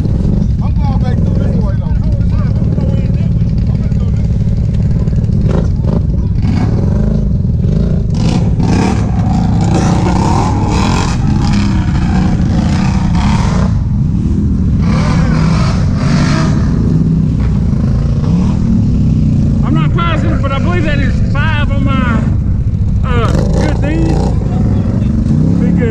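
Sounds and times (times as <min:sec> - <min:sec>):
engine revving: 0:00.0 - 0:25.9.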